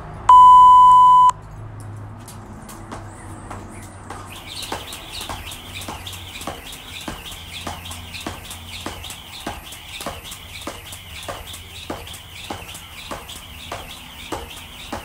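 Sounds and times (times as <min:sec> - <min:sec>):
jump rope slapping concrete: 0:01.8 - 0:15.0.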